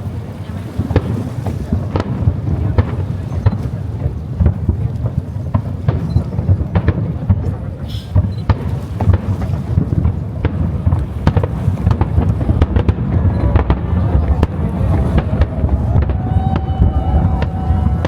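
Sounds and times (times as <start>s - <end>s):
fireworks booming and cracking: 0.0s - 18.0s.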